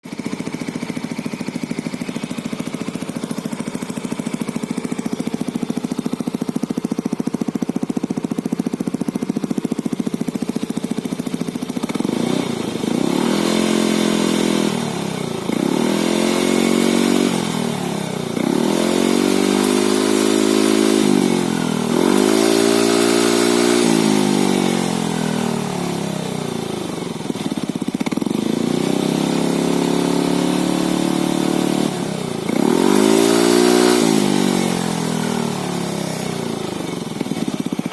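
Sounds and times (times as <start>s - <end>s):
scooter engine idling and revving: 0.0s - 37.9s.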